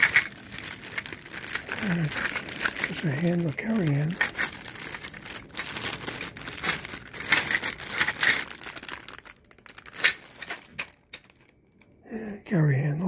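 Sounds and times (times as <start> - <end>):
plastic bags crinkling: 0.0 - 11.8.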